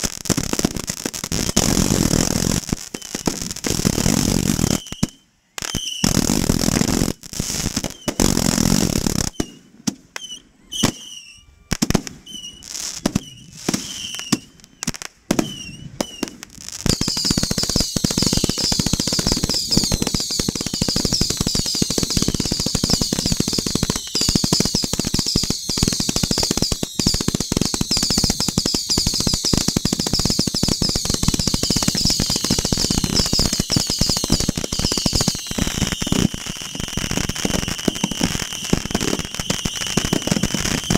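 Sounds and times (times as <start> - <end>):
firework whistles: 0.0 - 40.9
fireworks bangs and crackling: 0.0 - 40.9.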